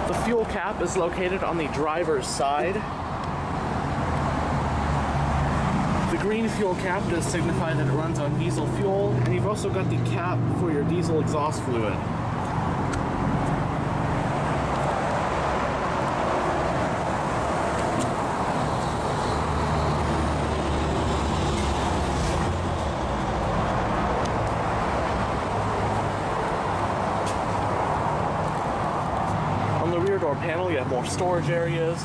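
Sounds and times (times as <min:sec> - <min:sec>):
vehicle rumble: 0:00.0 - 0:32.0.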